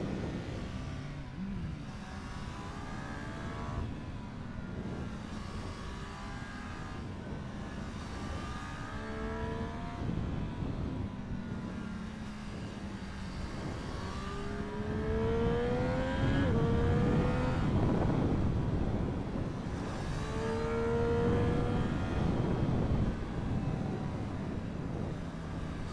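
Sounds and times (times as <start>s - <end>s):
motorcycle engine accelerating hard: 0.0s - 25.9s.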